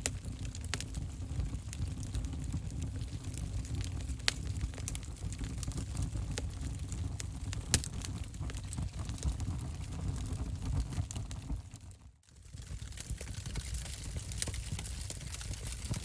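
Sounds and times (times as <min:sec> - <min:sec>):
low rumble of burning: 0:00.0 - 0:16.0
wood fire crackling and popping: 0:00.0 - 0:16.0.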